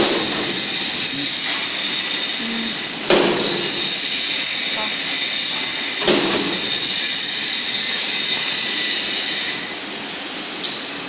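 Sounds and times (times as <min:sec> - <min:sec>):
loud high-pitched hiss: 0:00.0 - 0:11.0.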